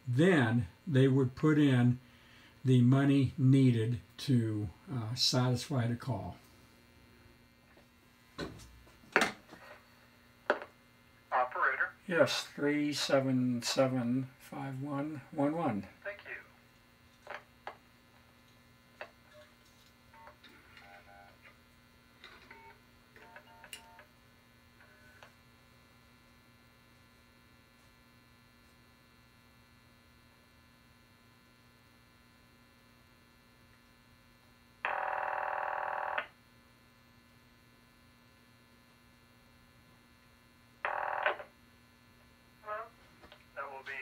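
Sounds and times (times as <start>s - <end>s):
telephone line hum: 0.1s - 7.8s, 8.5s - 44.0s.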